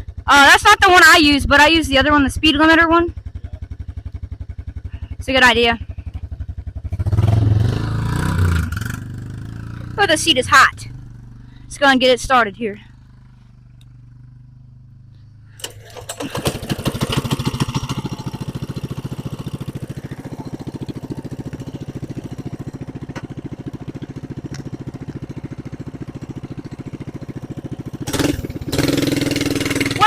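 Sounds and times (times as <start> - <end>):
mini bike engine running: 0.0 - 30.0.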